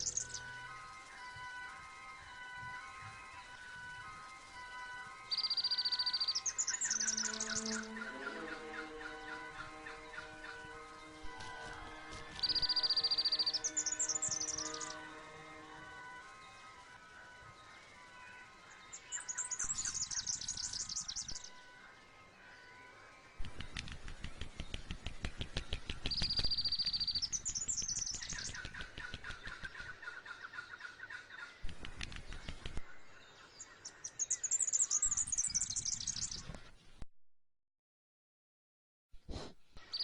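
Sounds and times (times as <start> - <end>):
high chirping bird trills: 0.0 - 1.7, 2.3 - 23.6, 25.8 - 31.5, 32.4 - 36.5.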